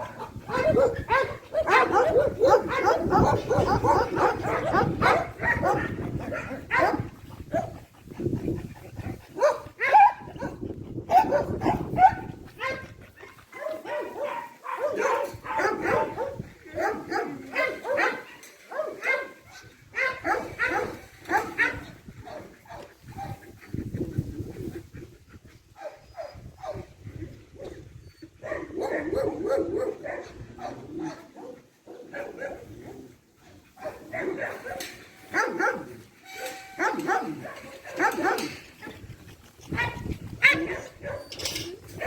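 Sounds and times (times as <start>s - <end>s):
dogs barking: 0.0s - 23.4s, 25.8s - 26.9s, 28.4s - 32.8s, 33.7s - 42.0s.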